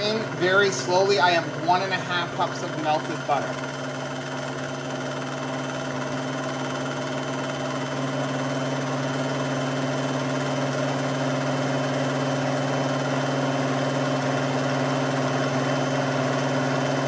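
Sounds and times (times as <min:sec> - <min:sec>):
blender motor running: 0:00.0 - 0:17.0.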